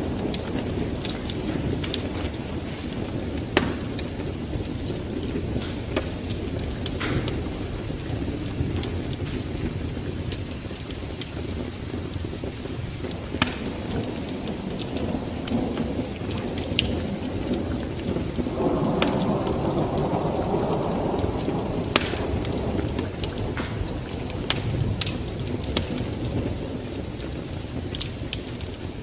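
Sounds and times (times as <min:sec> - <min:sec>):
low rumble of flames: 0:00.0 - 0:29.0
wood fire popping: 0:00.0 - 0:29.0.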